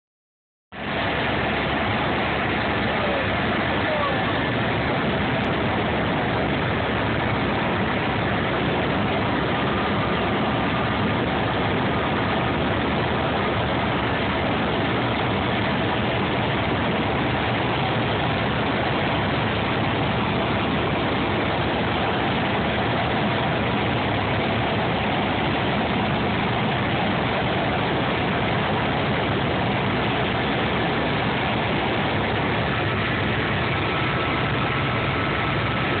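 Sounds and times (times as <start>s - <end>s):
helicopter engine and rotor drone: 0.7s - 36.0s.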